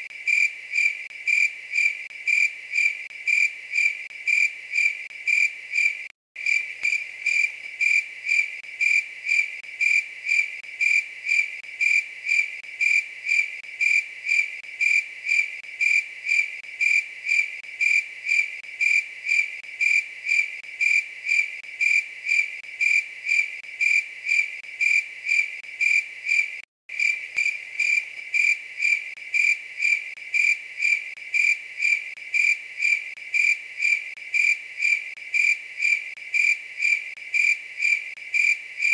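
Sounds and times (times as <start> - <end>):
cricket chirping: 0.1 - 38.9.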